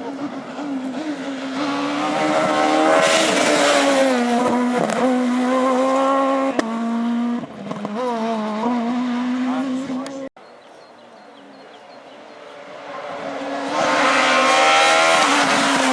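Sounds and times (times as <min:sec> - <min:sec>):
rally car engine at high revs: 0:00.0 - 0:10.3, 0:12.2 - 0:15.9
rushing tyre noise: 0:00.0 - 0:10.3, 0:12.1 - 0:15.9.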